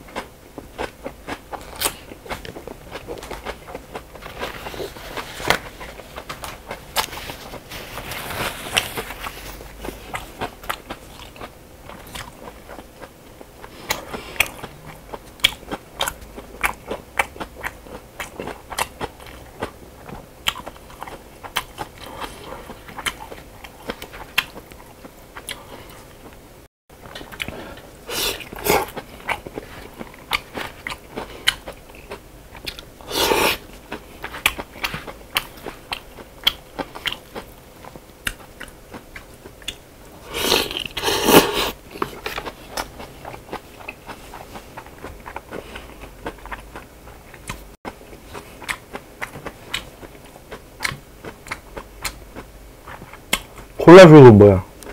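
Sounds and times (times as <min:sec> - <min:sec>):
person chewing and crunching food: 0:00.0 - 0:54.9.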